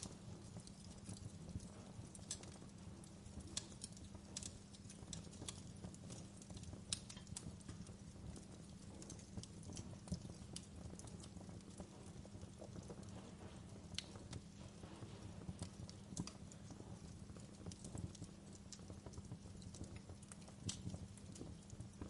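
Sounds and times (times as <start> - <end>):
logs crackling in fire: 0.0 - 22.0
low fire rumble: 0.0 - 22.0.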